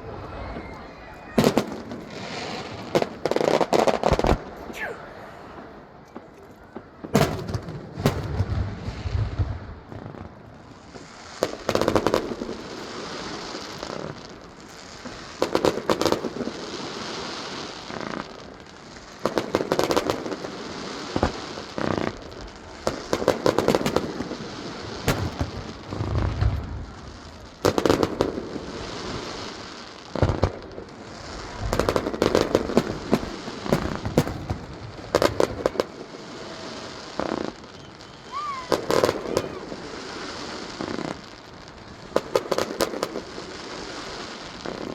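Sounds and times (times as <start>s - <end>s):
crackling fireworks: 0.0s - 44.9s.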